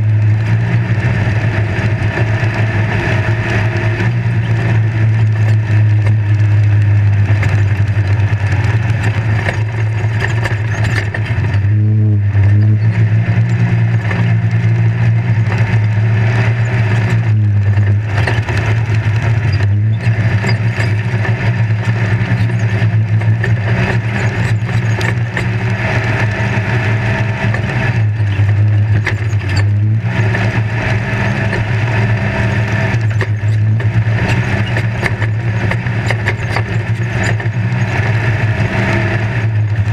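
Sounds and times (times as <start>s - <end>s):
engine running hard: 0.0s - 39.9s
rattling: 4.3s - 39.0s.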